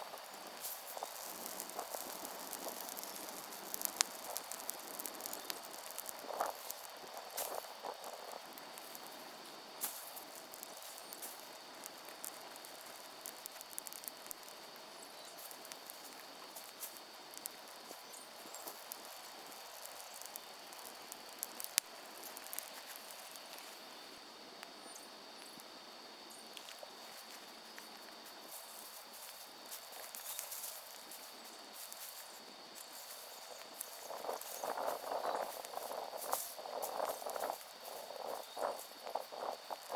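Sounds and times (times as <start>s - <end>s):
high-pitched insect-like whine: 0.0s - 39.9s
wood fire crackling and popping: 0.0s - 39.9s.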